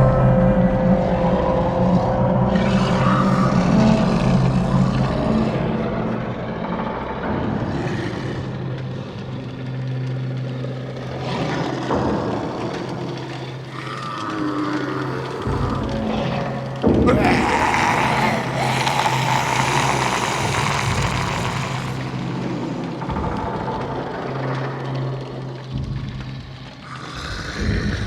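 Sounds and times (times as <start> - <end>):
grainy rumble: 0.0 - 28.0.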